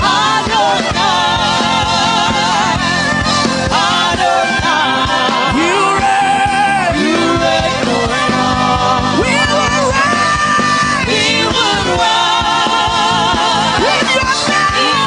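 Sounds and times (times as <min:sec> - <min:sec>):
instrumental backing with steady beat: 0:00.0 - 0:15.0.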